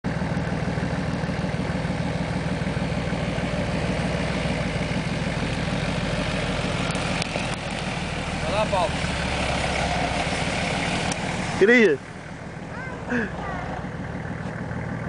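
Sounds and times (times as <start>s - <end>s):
engine running at low revs: 0.1s - 15.0s.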